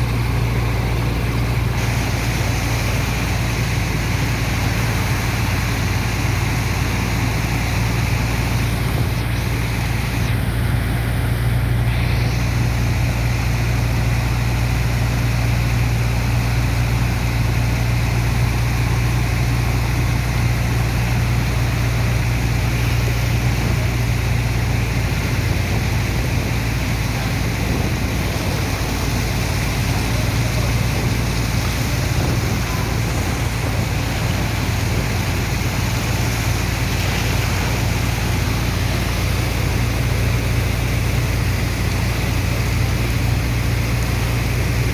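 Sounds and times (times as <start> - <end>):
engine and pump humming: 0.0 - 44.9
rush of water: 0.0 - 44.9.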